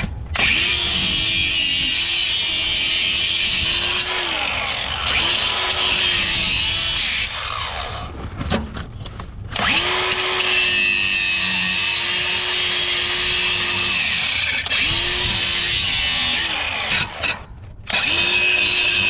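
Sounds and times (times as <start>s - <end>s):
angle grinder cutting metal: 0.4s - 8.1s, 9.6s - 19.0s.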